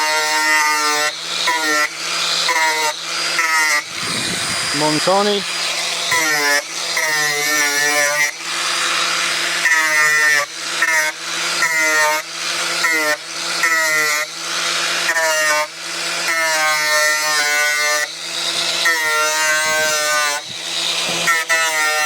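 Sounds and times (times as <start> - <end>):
angle grinder on metal: 0.0 - 22.0.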